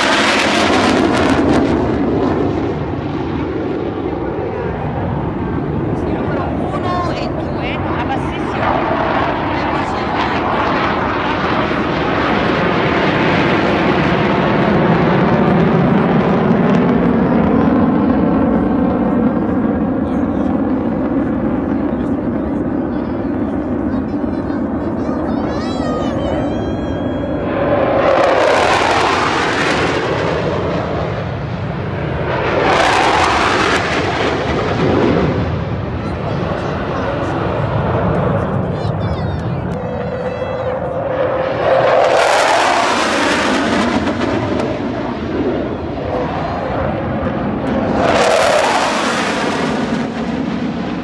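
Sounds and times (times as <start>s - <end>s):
jet aircraft flying overhead: 0.0s - 51.0s.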